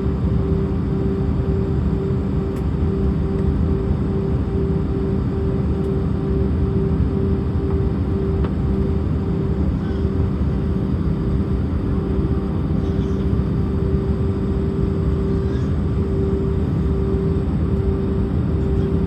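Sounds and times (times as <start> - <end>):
jet engine rumble in cabin: 0.0 - 19.0
steady droning tone: 0.0 - 19.0.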